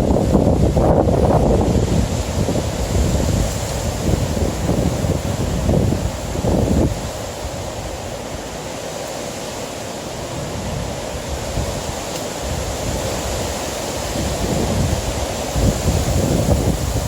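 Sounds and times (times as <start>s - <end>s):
gusty wind on microphone: 0.0s - 17.0s.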